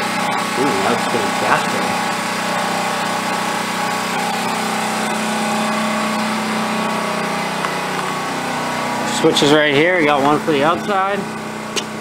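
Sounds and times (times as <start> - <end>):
generator engine droning: 0.0 - 12.0.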